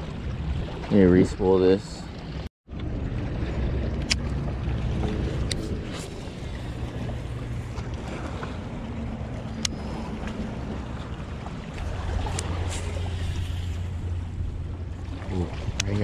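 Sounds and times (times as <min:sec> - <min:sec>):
wind rumbling on microphone: 0:00.0 - 0:16.0
water lapping against rocks: 0:03.0 - 0:16.0.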